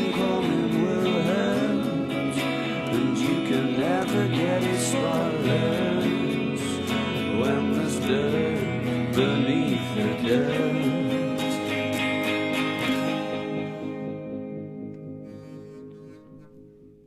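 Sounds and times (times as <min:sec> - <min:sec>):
bass: 0:00.0 - 0:15.2
electric guitar: 0:00.0 - 0:17.0.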